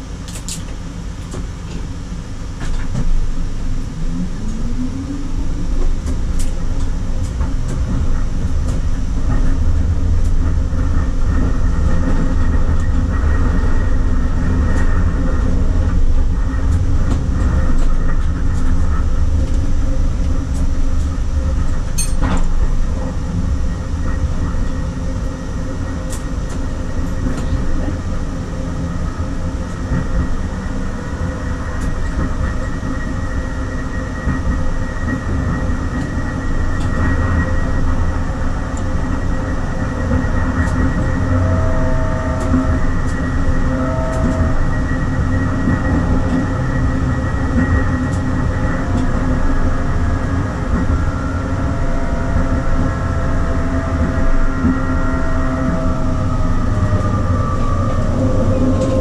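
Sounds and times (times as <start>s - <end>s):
tram rumbling on track: 0.0s - 59.0s
steady tram tones: 1.3s - 59.0s.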